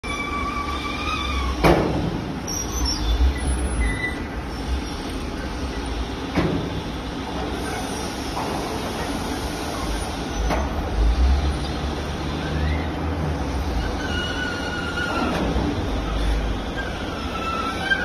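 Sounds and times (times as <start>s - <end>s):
conveyor squeal: 0.0s - 18.0s.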